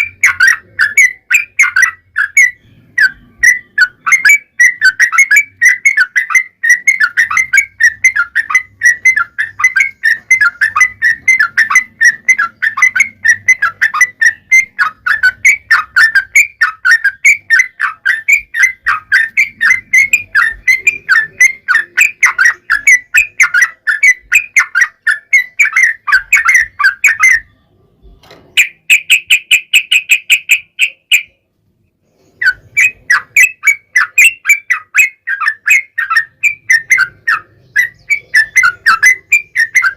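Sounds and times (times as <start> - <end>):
high quick bird trill: 0.0 - 27.8, 28.5 - 39.9
bird chattering song: 0.0 - 39.9.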